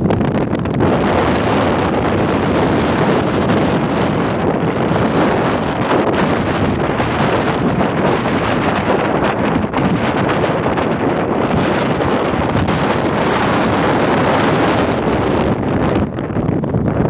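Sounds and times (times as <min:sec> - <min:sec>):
blizzard wind buffeting microphone: 0:00.0 - 0:17.0.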